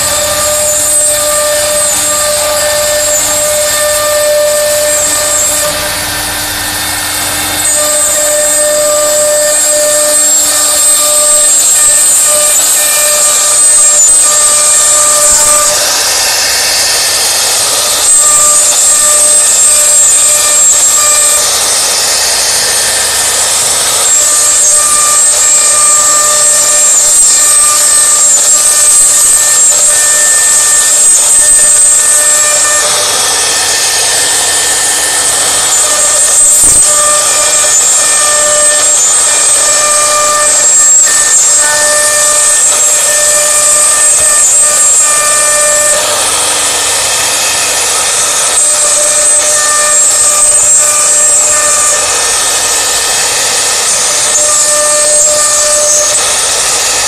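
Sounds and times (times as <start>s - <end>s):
bit cutting wood hiss: 0.0s - 57.0s
router spindle whine: 0.0s - 57.0s.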